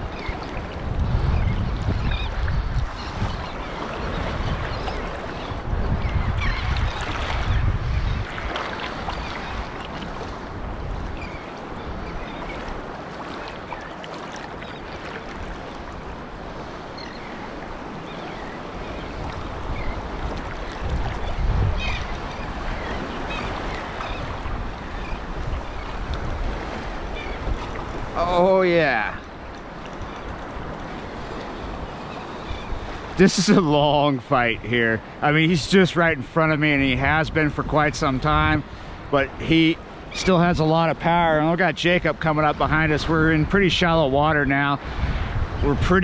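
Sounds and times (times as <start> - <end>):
wind buffeting microphone: 0.0 - 41.4, 42.1 - 46.0
waves lapping in shallow surf: 0.0 - 46.0.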